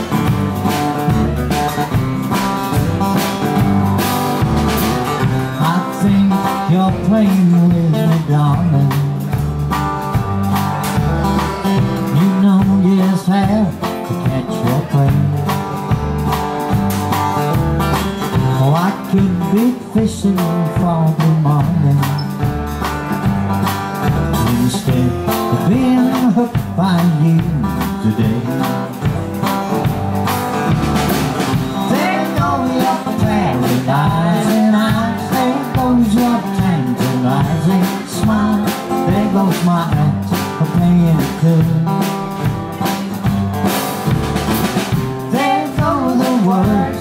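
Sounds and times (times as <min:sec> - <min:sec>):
bass line: 0:00.0 - 0:47.0
guitar: 0:00.0 - 0:47.0
steady drum beat: 0:00.0 - 0:47.0.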